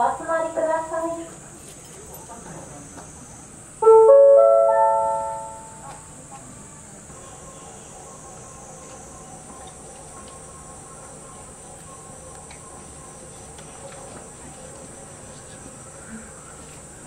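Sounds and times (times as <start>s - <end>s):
shrill insect drone: 2.6s - 17.0s.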